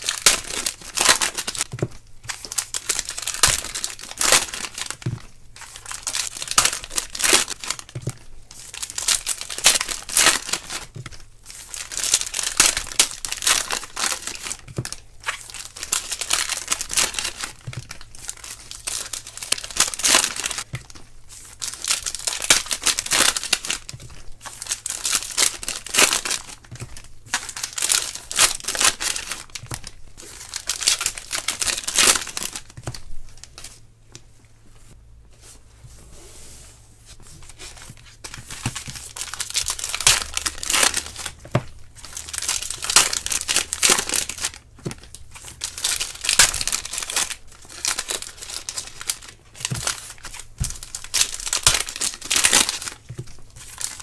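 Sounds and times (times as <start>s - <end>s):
foil wrappers crinkling: 0.0s - 33.8s, 37.2s - 54.0s.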